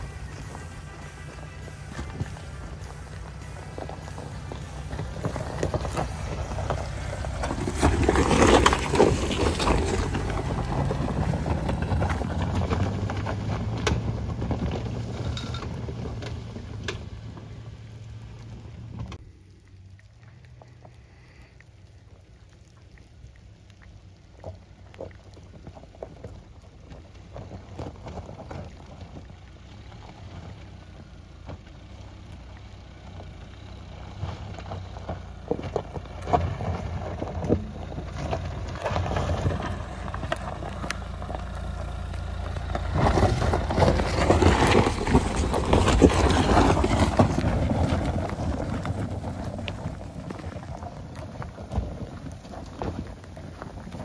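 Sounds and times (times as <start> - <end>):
tyres crunching over loose stones: 0.0 - 21.4, 23.8 - 54.0
car engine: 0.0 - 54.0.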